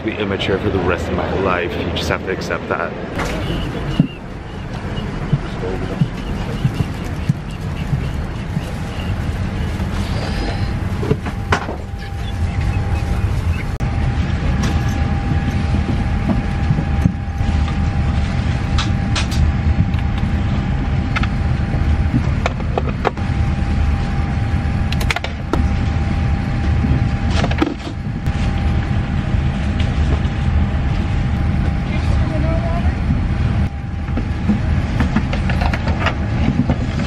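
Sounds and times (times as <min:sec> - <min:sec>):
airliner cabin rumble: 0:00.0 - 0:37.0
faint steady whine: 0:00.0 - 0:37.0.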